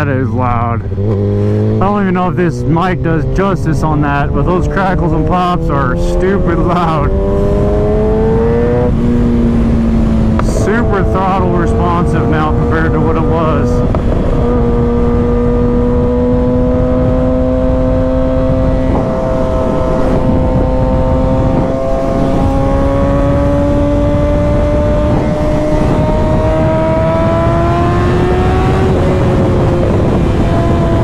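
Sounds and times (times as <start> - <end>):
motorcycle engine at high revs: 0.0 - 31.0
wind rush: 0.0 - 31.0.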